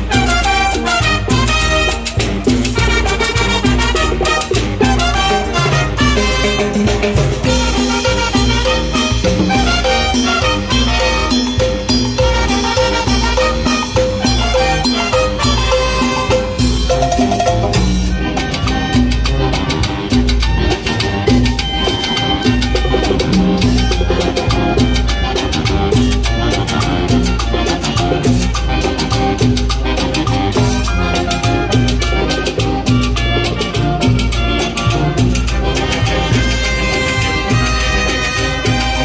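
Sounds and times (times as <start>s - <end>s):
brass band playing latin dance music: 0.0s - 39.0s.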